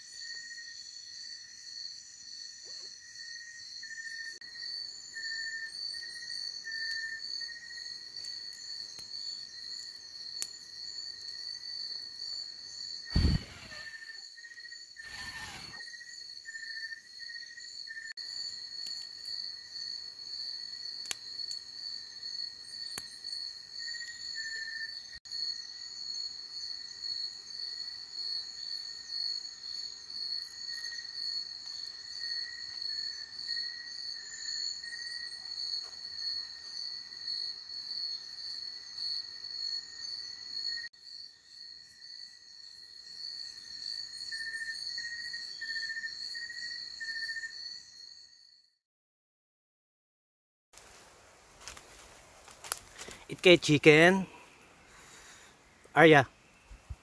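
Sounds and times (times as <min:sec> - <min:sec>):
crickets and insects trilling: 0:00.0 - 0:48.6, 0:50.8 - 0:57.0.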